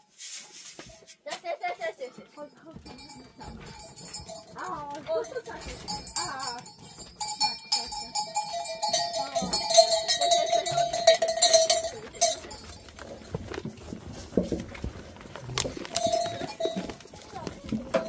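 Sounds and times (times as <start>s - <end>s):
hooves clattering: 0.0s - 18.0s
goat bells clinking: 1.5s - 18.0s.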